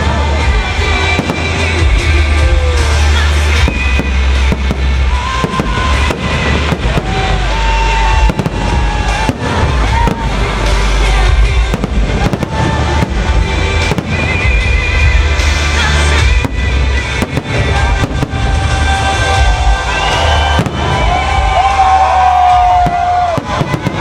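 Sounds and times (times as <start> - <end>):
fireworks bangs: 0.0 - 24.0
loud music with heavy bass: 0.0 - 24.0.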